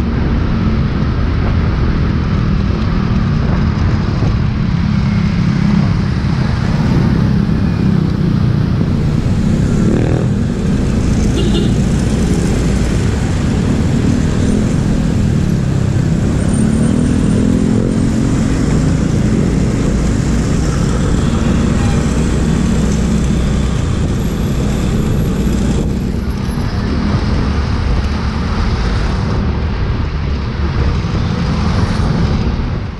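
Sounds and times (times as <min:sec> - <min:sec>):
road and wind noise: 0:00.0 - 0:32.9
motorcycle engine: 0:01.8 - 0:29.7.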